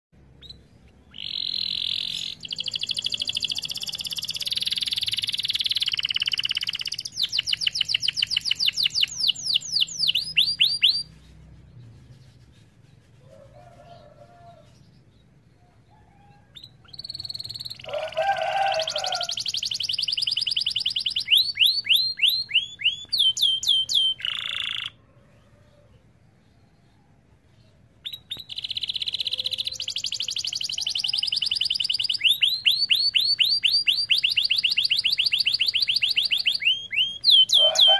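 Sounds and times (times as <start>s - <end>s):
canary singing: 0.2s - 37.9s.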